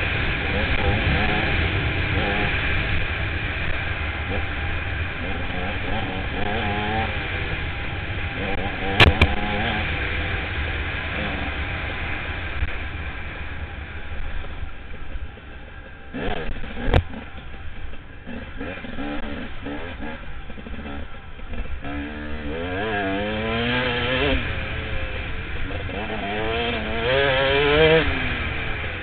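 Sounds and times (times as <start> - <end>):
dirt bike engine revving: 0.0 - 14.0, 15.9 - 29.0.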